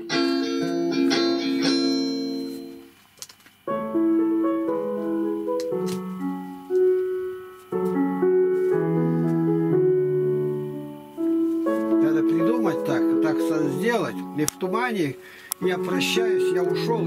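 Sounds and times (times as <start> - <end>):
keyboard chords: 0.0 - 3.0, 3.6 - 17.0.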